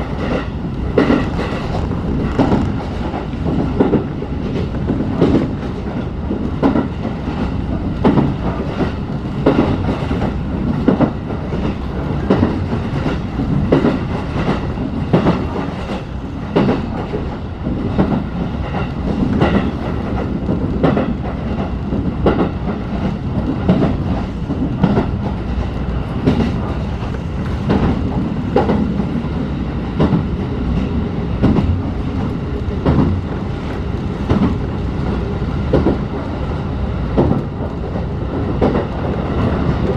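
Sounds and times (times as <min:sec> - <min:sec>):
clickety-clack of train wheels: 0:00.0 - 0:39.9
train rolling rumble: 0:00.0 - 0:39.9.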